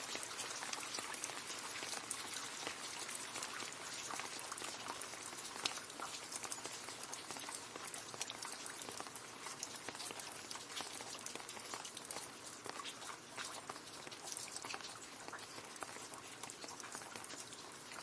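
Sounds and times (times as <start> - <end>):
rain splashing into puddle: 0.0 - 18.0.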